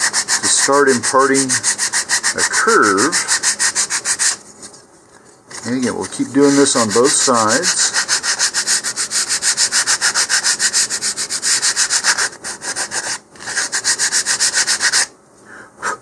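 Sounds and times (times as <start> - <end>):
sandpaper rubbing on wood: 0.0 - 4.4, 5.5 - 15.1.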